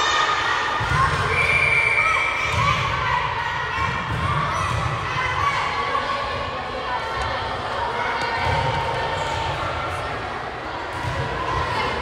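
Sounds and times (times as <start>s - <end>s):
chatter of players and spectators: 0.0s - 12.0s.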